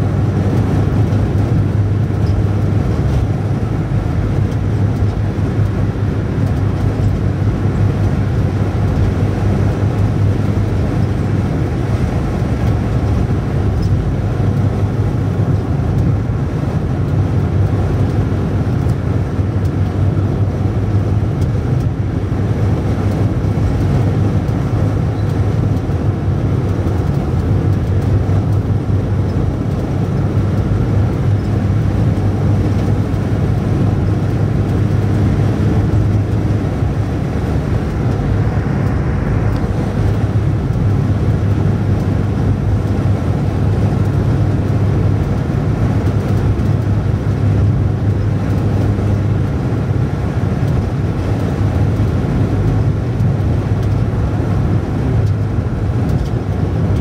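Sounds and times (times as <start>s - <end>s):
car engine and road noise: 0.0s - 57.0s
strong low hum: 0.0s - 57.0s.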